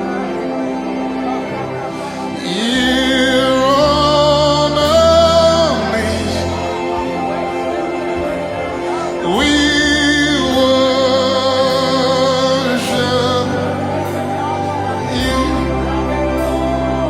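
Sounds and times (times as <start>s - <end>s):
person singing with vibrato: 0.0s - 17.0s
steady bass: 0.0s - 17.0s
sustained chords: 0.0s - 17.0s.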